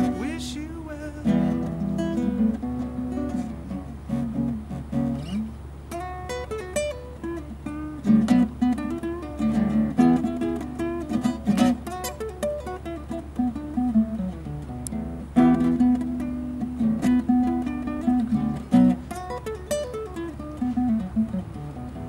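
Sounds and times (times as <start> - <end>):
acoustic guitar playing blues: 0.0 - 22.0.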